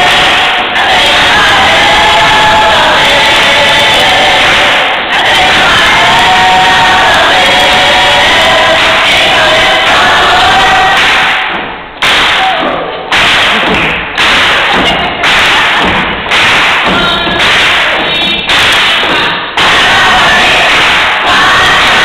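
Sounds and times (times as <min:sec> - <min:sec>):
gospel choir singing: 0:00.0 - 0:11.6, 0:14.3 - 0:22.0
heavy thumps in a steady beat: 0:00.0 - 0:22.0.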